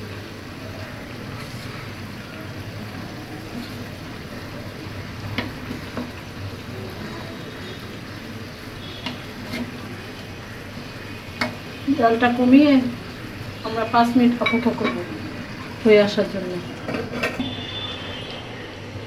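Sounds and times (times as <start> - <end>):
gravy simmering and bubbling: 0.0 - 19.0.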